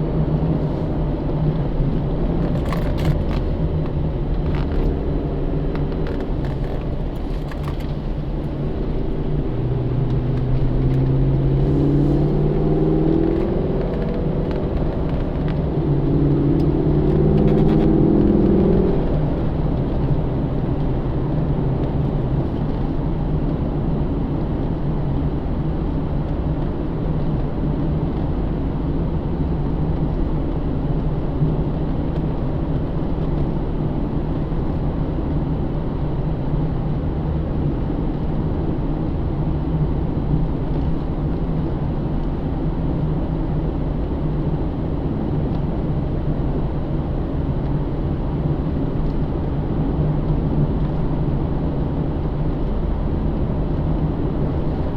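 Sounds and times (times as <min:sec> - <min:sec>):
car engine droning: 0:00.0 - 0:54.9
tyre and road noise: 0:00.0 - 0:54.9.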